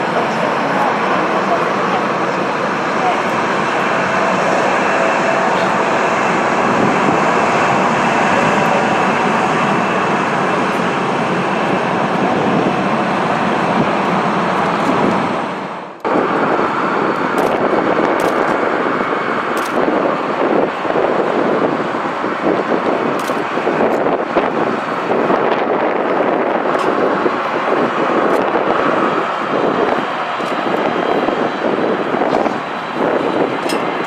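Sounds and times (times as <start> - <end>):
jet engines roaring: 0.0 - 34.0.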